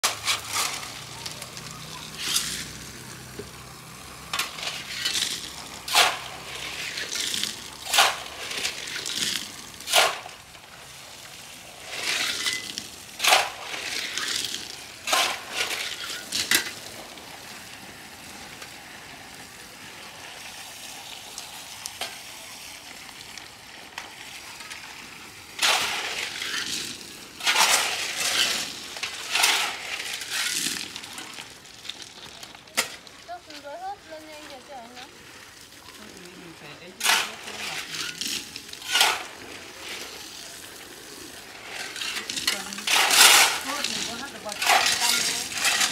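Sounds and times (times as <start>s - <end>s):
hose spraying water: 0.0s - 45.9s
shovels scraping wet pebbles: 0.0s - 45.9s.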